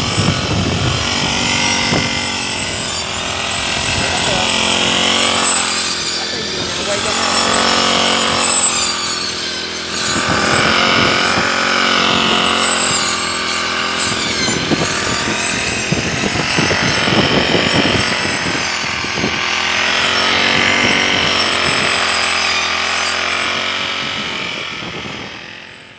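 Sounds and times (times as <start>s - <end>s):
brush cutter cutting grass: 0.0s - 25.9s.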